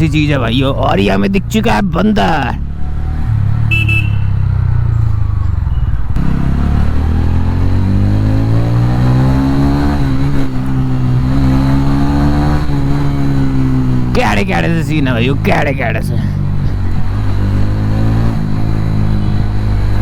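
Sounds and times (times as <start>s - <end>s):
motorcycle engine accelerating: 0.0s - 20.0s
road and wind noise: 0.0s - 20.0s.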